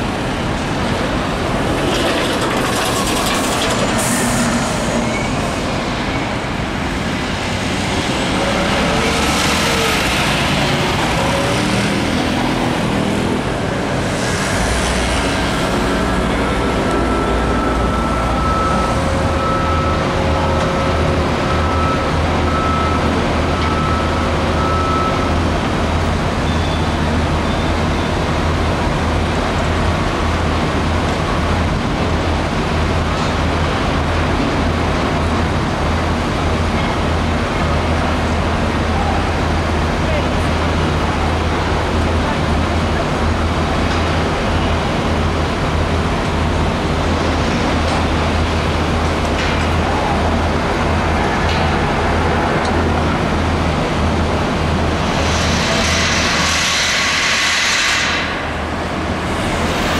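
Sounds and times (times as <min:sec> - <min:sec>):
city street traffic: 0:00.0 - 0:59.9
heavy engine humming: 0:00.0 - 0:59.9.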